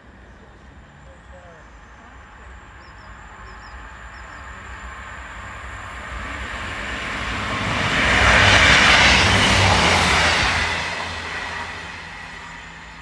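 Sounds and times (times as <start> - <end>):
train engine rumble: 0.0 - 13.0.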